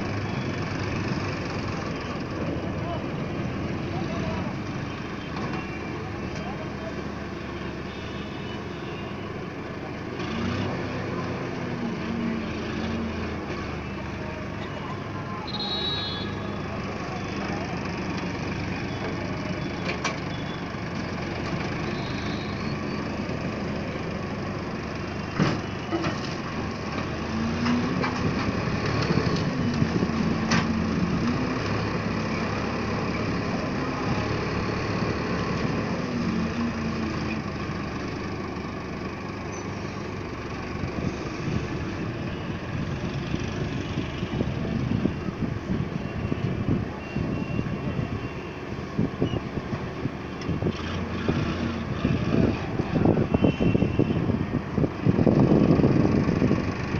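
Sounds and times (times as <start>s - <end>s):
tractor diesel engine under load: 0.0s - 56.9s.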